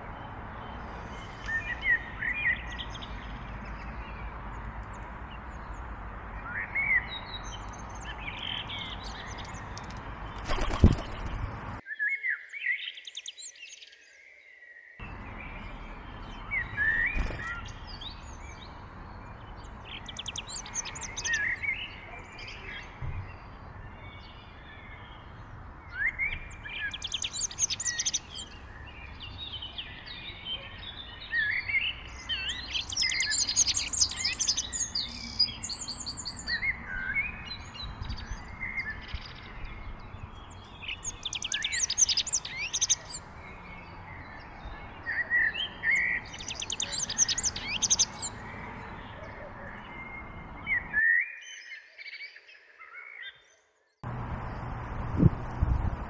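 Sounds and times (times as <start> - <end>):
songbird trilling song: 0.0 - 55.5.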